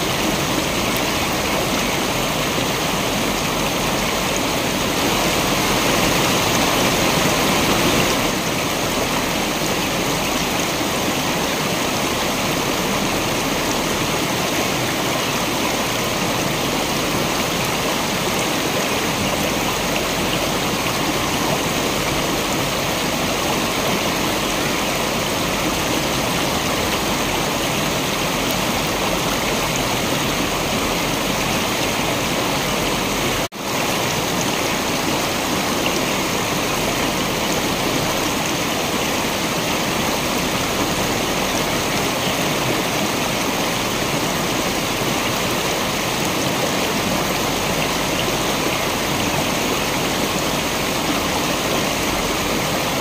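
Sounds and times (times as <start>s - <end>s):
waterfall rushing water: 0.0s - 53.0s.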